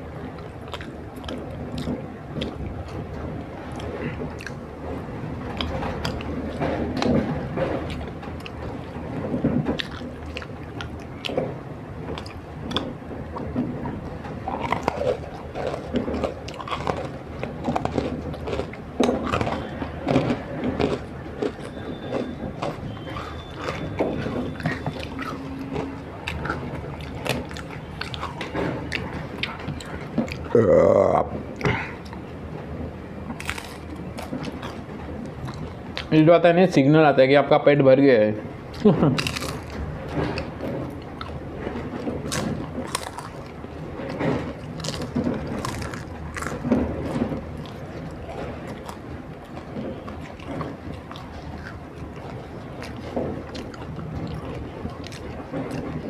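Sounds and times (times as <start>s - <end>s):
person chewing crunchy food: 0.0s - 32.3s, 33.3s - 36.1s, 38.7s - 56.0s.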